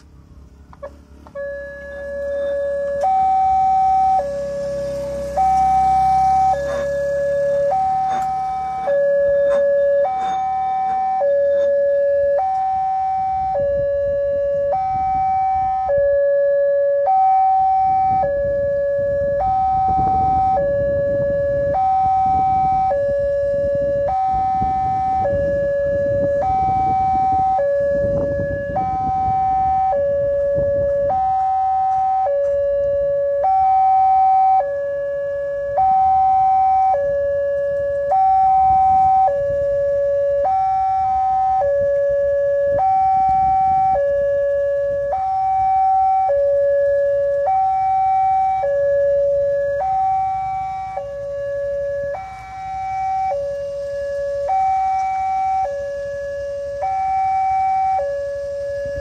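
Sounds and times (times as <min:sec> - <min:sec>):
two-tone crossing alarm: 0:00.0 - 0:59.0.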